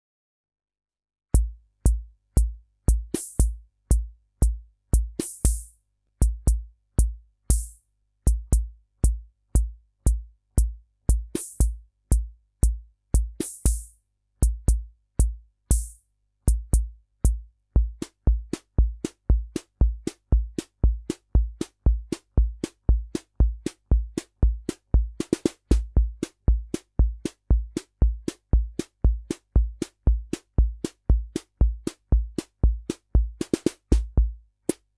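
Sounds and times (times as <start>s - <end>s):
rhythm machine bass-drum thumps: 1.4s - 34.9s.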